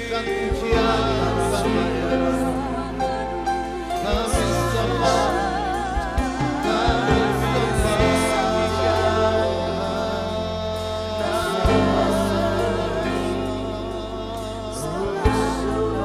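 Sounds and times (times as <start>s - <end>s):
band chords: 0.0s - 16.0s
voices singing long notes: 0.0s - 16.0s.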